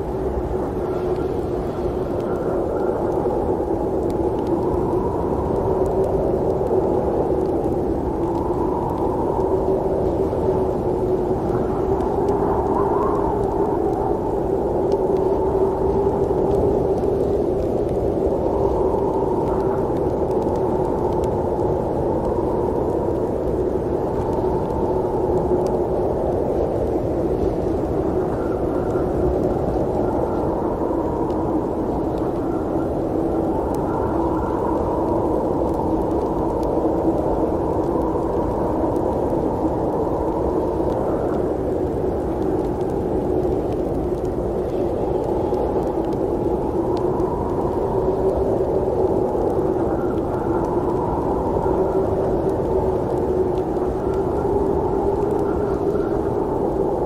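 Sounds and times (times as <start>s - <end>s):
muffled snowstorm wind: 0.0s - 57.0s
faint ticks: 0.2s - 57.0s.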